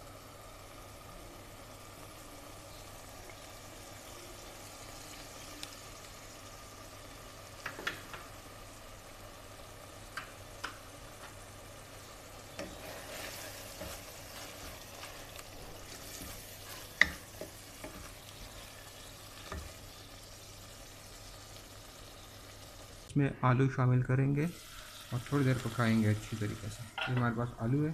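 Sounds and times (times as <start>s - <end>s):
meat sizzling in oil: 0.0s - 23.1s, 24.4s - 27.9s.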